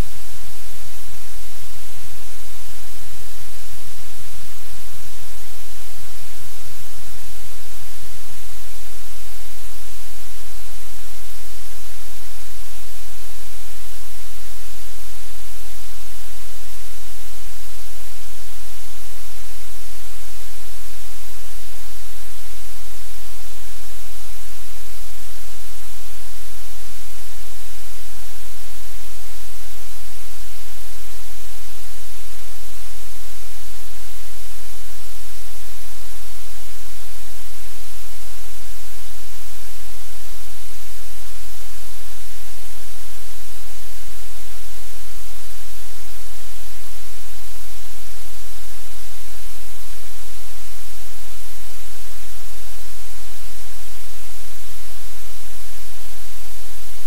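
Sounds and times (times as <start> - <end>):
static hiss: 0.0 - 57.0.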